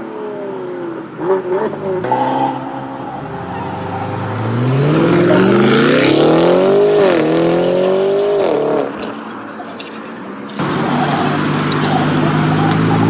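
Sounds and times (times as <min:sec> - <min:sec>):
car engine accelerating hard: 0:00.0 - 0:09.3, 0:10.5 - 0:13.0.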